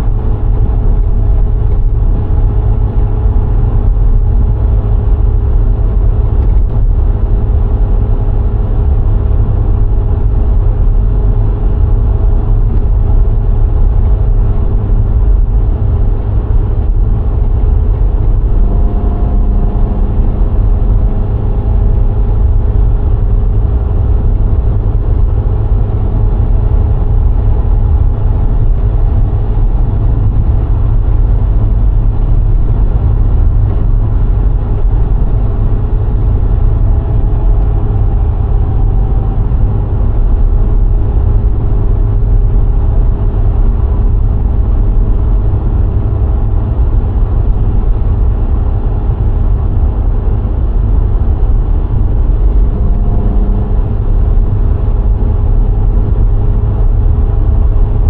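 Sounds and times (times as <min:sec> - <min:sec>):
car engine hum: 0:00.0 - 0:58.0
extra engine tone: 0:00.0 - 0:58.0
road and wind rumble: 0:00.0 - 0:58.0.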